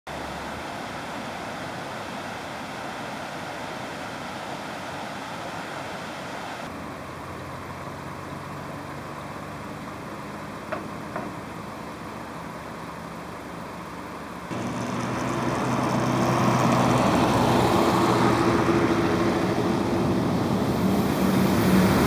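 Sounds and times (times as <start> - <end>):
distant city traffic: 0.1 - 22.0.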